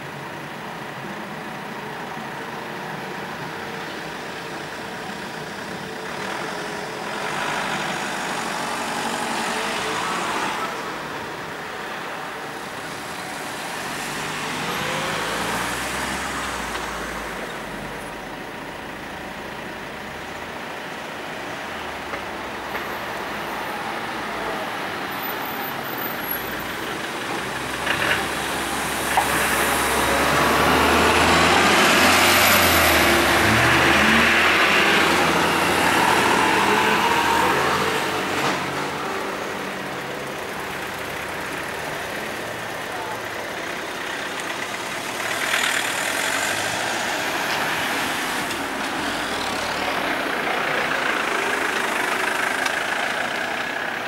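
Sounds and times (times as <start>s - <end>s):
bus driving by: 0.0s - 54.0s
cars passing: 0.0s - 54.0s.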